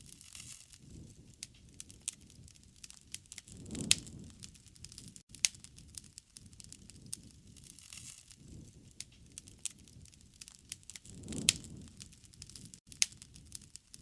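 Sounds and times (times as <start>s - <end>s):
campfire crackling: 0.0s - 14.0s
loud fire snaps: 0.0s - 14.0s
low rumble of flames: 0.0s - 14.0s.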